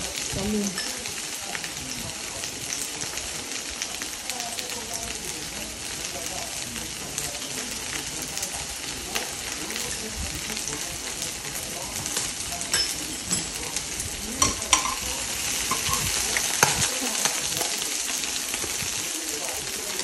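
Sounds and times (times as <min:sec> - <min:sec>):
meat and vegetables sizzling in pan: 0:00.0 - 0:20.0.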